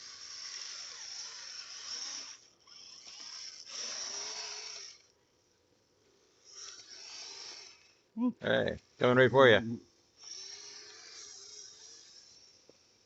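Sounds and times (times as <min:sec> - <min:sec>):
electric drive whirring: 0:00.0 - 0:13.0.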